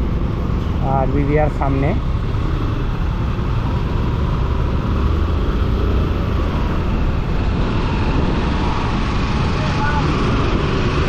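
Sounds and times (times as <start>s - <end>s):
motorcycle engine rumble: 0.0s - 11.0s
wind noise: 0.0s - 11.0s.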